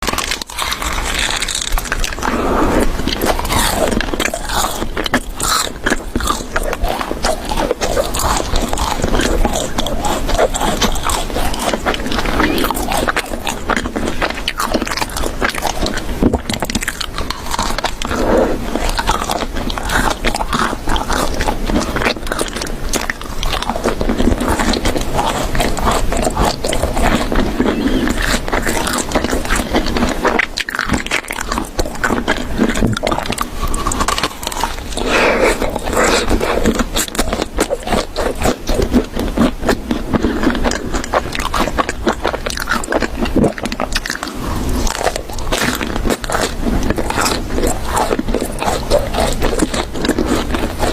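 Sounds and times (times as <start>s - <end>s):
chewing and biting: 0.0s - 50.9s.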